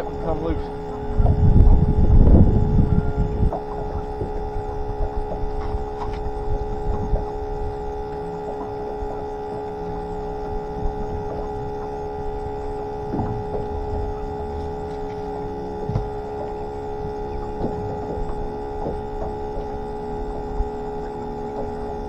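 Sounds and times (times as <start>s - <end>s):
pump whining: 0.0s - 22.0s.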